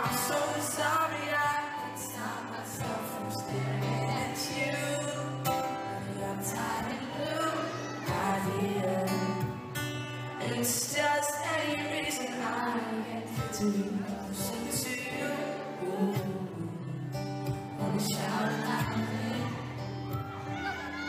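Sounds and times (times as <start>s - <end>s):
man singing into a microphone: 0.0s - 19.8s
guitar: 0.0s - 21.0s.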